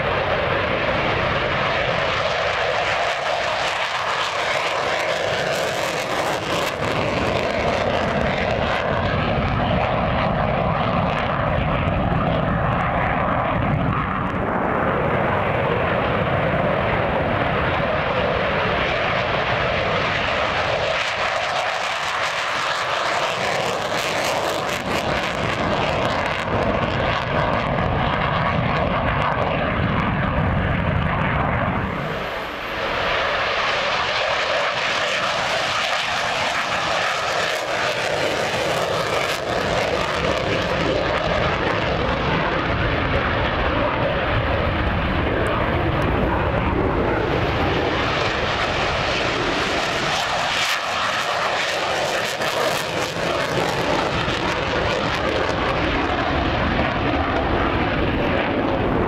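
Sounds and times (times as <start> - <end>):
jet engine roaring: 0.0 - 59.0.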